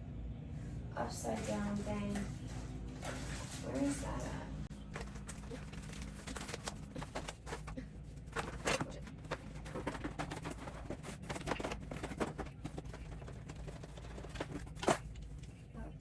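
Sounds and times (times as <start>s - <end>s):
low room hum: 0.0s - 16.0s
rustling of packaging: 1.2s - 4.2s, 4.8s - 15.7s.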